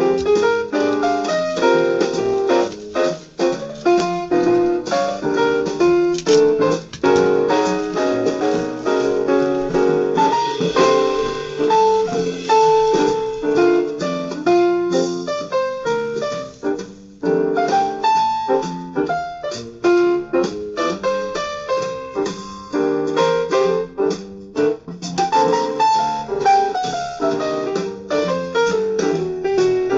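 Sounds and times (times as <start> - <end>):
piano jazz: 0.0 - 29.9.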